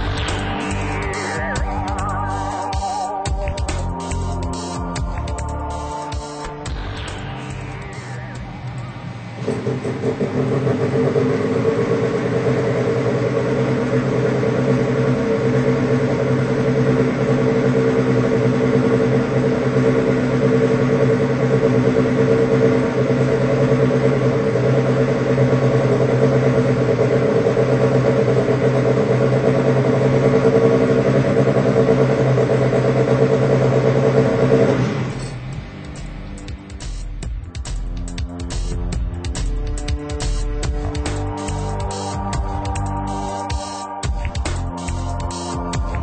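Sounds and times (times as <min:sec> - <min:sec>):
rotary engine turning a propeller: 0:00.0 - 0:37.2.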